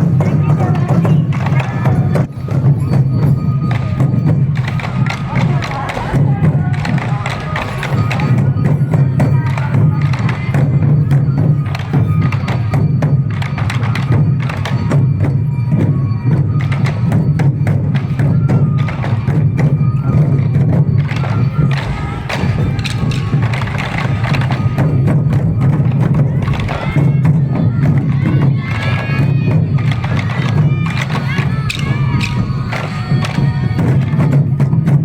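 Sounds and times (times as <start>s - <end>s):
bamboo flutes playing melody: 0.0s - 35.0s
taiko drums in fast rhythm: 0.0s - 35.0s.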